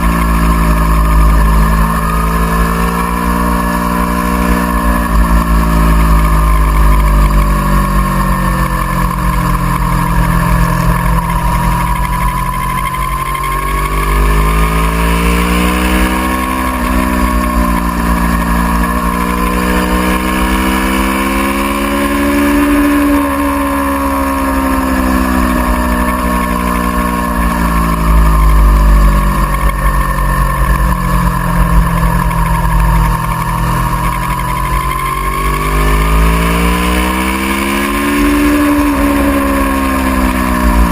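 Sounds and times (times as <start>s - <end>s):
motorcycle engine running hard: 0.0s - 40.9s.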